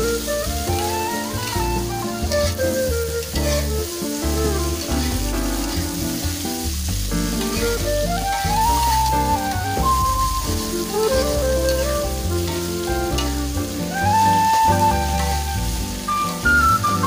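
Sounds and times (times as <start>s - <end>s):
spatula stirring: 0.0s - 13.9s, 15.1s - 16.5s
background music with bass line: 0.0s - 17.0s
vegetables sizzling in a wok: 0.0s - 17.0s.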